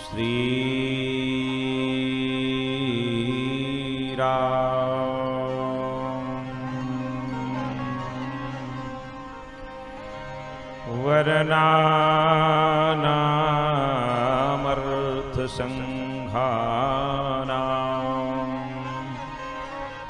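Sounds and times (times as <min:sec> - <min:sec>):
man chanting: 0:00.0 - 0:09.4, 0:10.8 - 0:20.0
instrumental drone: 0:00.0 - 0:20.0.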